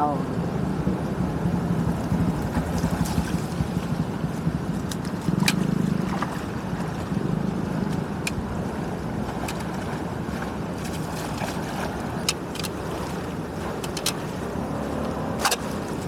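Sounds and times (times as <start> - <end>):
rainwater rushing through channel: 1.6 - 16.0.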